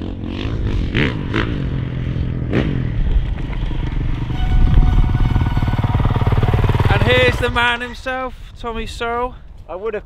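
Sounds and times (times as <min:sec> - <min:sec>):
motocross bike engine: 0:00.0 - 0:08.1.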